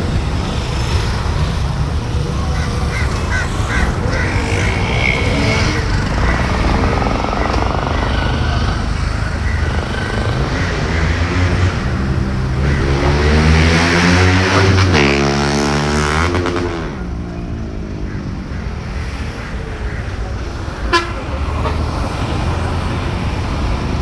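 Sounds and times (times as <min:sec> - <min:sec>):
vehicle passing by: 0:00.0 - 0:24.0.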